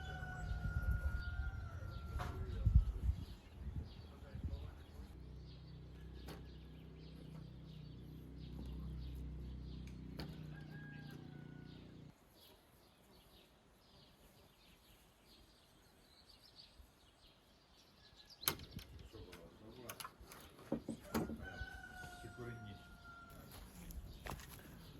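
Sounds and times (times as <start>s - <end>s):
faint birdsong: 0.0s - 24.9s.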